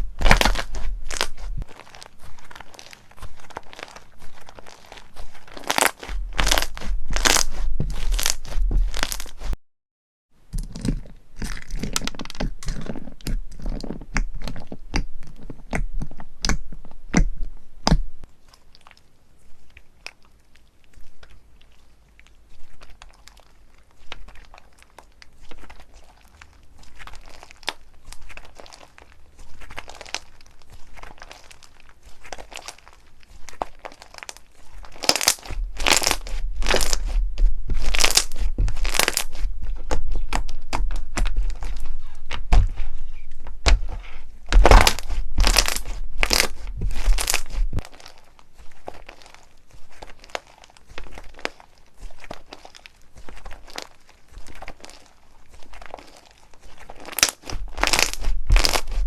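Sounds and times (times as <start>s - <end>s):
slime crackling when squeezed: 0.0s - 9.5s, 18.5s - 59.0s.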